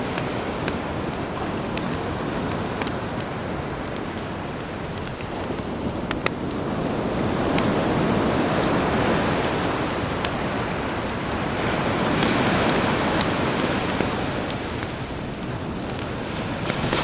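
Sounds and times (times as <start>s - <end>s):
campfire crackling: 0.0s - 17.0s
sea waves surging: 0.0s - 17.0s.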